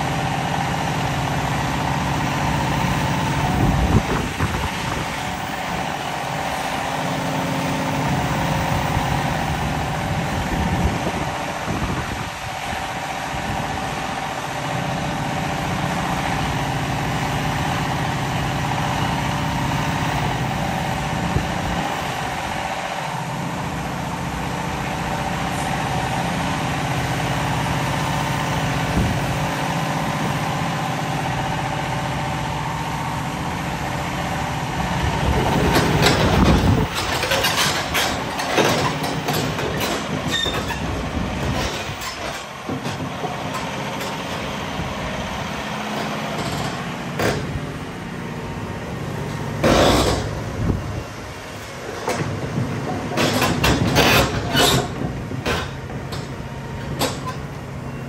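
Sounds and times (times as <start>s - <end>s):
excavator engine drone: 0.0s - 58.0s.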